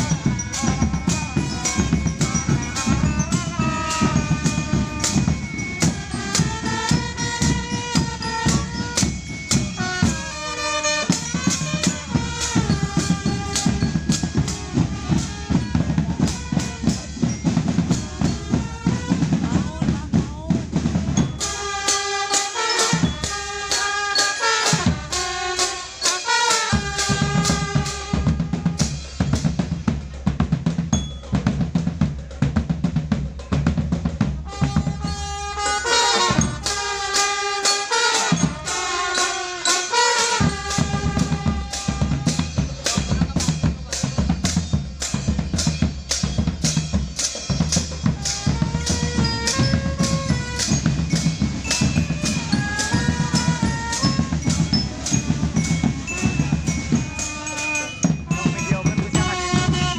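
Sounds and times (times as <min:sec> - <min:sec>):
bass drums: 0:00.0 - 0:26.0, 0:26.6 - 0:59.9
melodic instruments playing tune: 0:00.0 - 0:30.1, 0:34.0 - 0:59.9
cymbals: 0:00.0 - 0:59.9
snare and tenor drums: 0:00.0 - 0:59.9.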